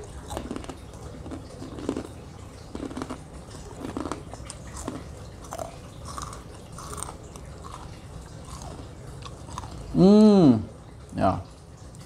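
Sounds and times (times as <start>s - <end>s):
mouth chewing crunchy chips: 0.0s - 10.4s.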